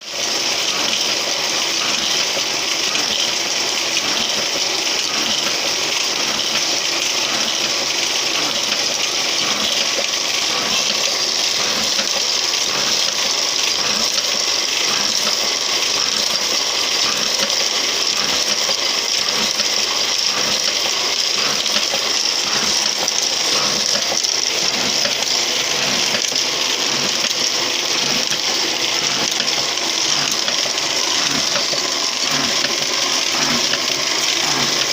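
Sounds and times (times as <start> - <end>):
machine hissing and clattering: 0.1 - 34.9.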